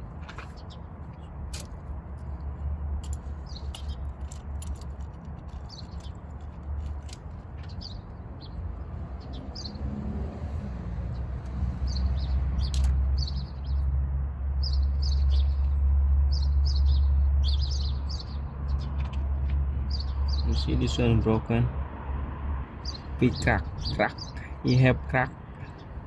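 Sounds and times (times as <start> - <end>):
small birds chirping: 0.3 - 1.4, 2.2 - 9.9, 11.0 - 14.0, 14.6 - 21.7, 22.8 - 26.0.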